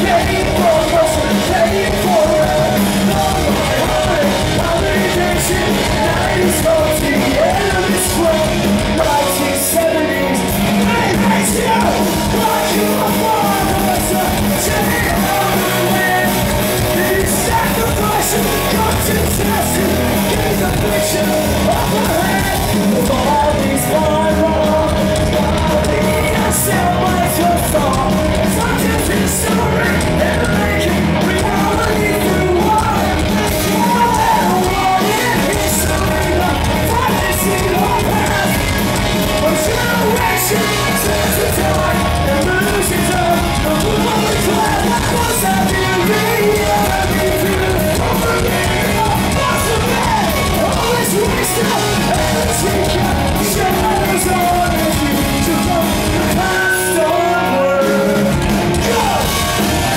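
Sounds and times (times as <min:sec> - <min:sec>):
live rock band playing: 0:00.0 - 0:59.9
singer shouting vocals: 0:00.0 - 0:59.9.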